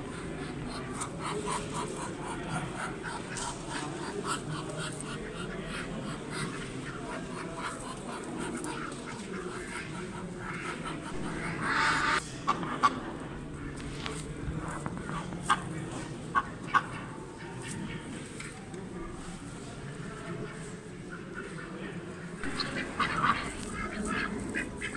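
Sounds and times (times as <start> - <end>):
ducks and fowl calling: 0.0 - 13.8, 16.3 - 18.1, 20.4 - 24.9.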